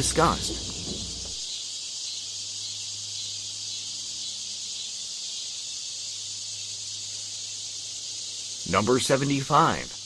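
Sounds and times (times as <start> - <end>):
broadcast line noise hiss: 0.0 - 10.0.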